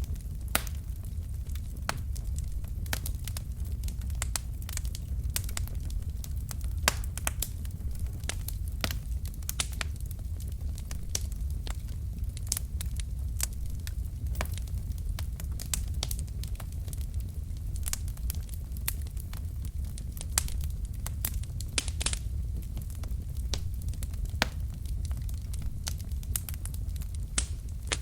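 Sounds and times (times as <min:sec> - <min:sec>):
fire flames rumbling: 0:00.0 - 0:28.0
wood crackling and popping: 0:00.0 - 0:28.0.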